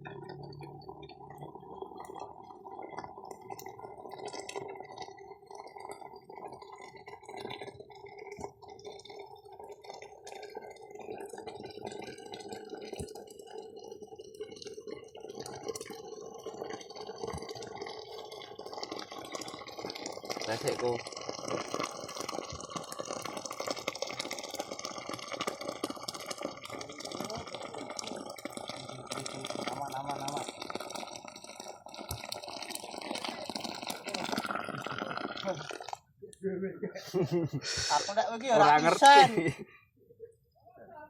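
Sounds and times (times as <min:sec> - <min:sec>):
water bubbling at a boil: 0:00.0 - 0:39.8.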